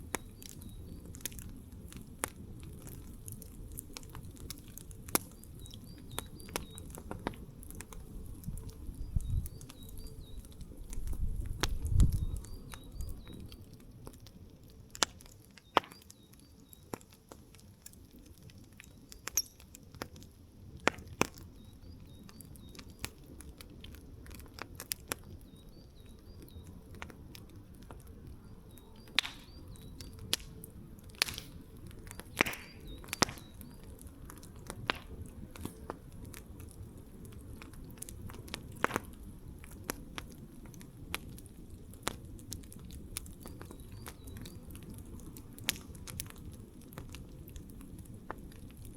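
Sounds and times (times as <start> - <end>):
campfire crackling and popping: 0.0 - 48.9
low rumble of flames: 0.0 - 48.9.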